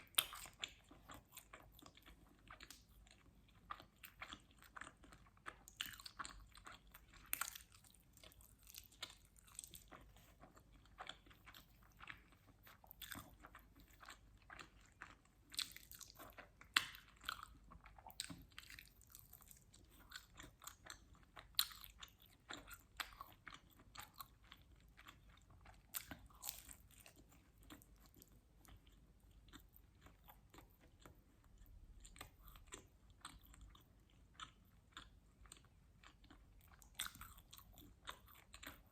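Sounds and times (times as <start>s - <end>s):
chewing with wet mouth clicks: 0.0s - 38.9s.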